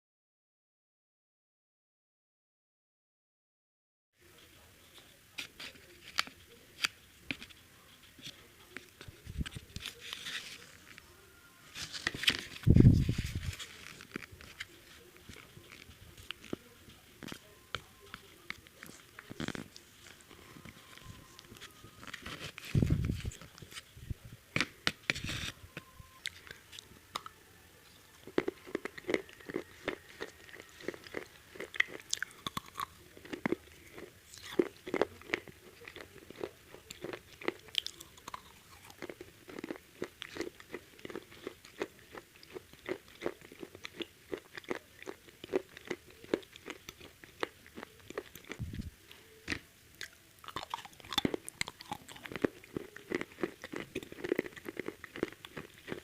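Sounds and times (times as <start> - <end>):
crunching and chewing fried chicken: 4.2 - 23.9, 26.2 - 56.0.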